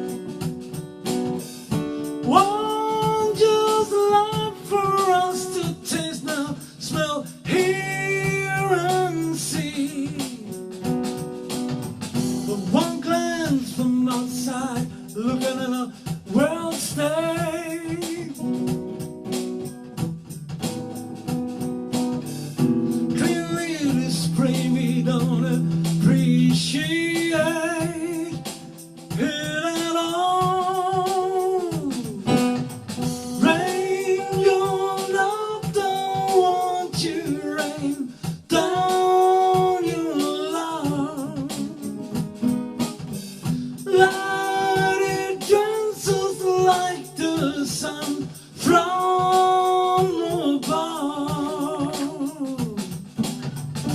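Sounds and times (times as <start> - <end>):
person singing soul: 0.0 - 11.4, 12.2 - 19.7, 22.3 - 53.3
guitar accompaniment: 0.0 - 53.9.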